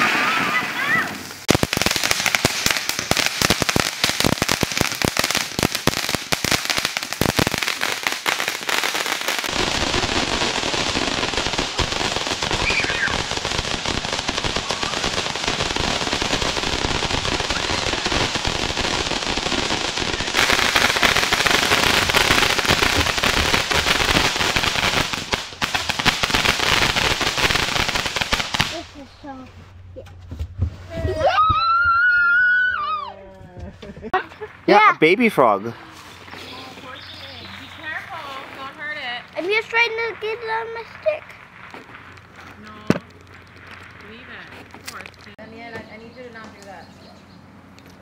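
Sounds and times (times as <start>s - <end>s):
sparkler fireworks crackling: 0.0s - 29.1s, 34.1s - 46.8s.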